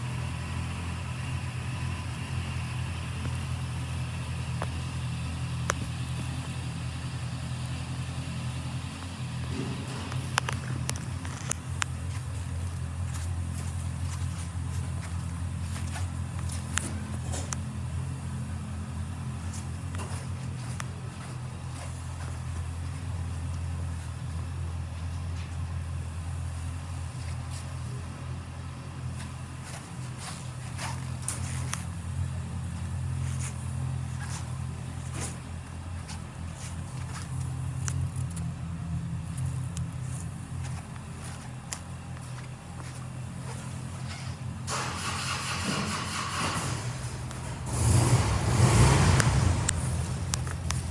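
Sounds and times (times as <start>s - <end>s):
motorcycle engine idling: 0.0s - 50.9s.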